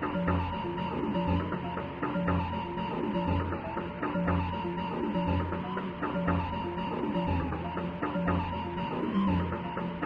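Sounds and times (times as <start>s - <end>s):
looping beat with bass: 0.0s - 10.0s.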